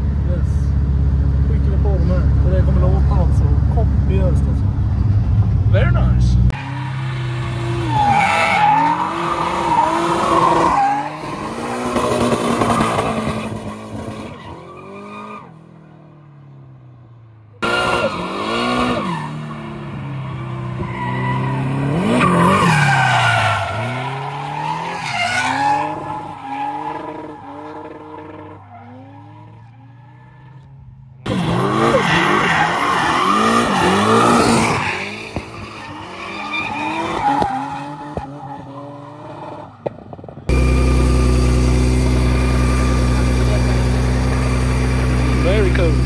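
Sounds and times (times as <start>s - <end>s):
car engine revving: 0.0s - 16.0s, 16.6s - 46.0s.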